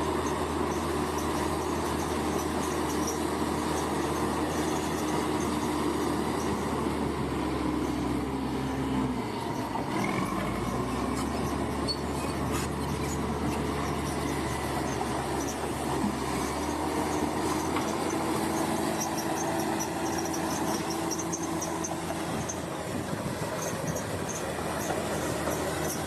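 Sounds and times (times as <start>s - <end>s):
bulldozer diesel engine running: 0.0s - 26.0s
crawler tracks working: 0.0s - 26.0s.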